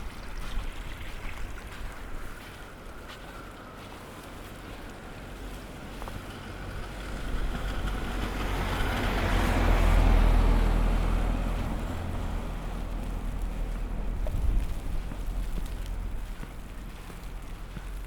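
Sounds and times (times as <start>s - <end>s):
strong wind buffeting microphone: 0.0s - 3.8s, 4.9s - 18.0s
vehicle engine rumble: 0.0s - 18.0s.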